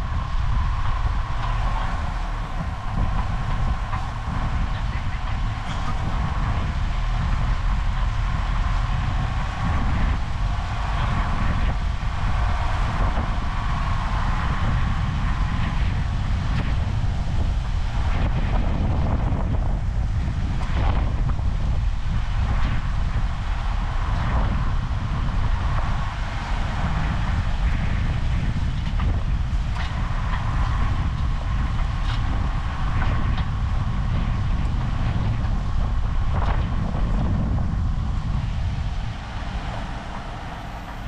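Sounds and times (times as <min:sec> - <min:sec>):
faint wavering whine: 0:00.0 - 0:41.0
vehicle rumble: 0:00.0 - 0:41.0.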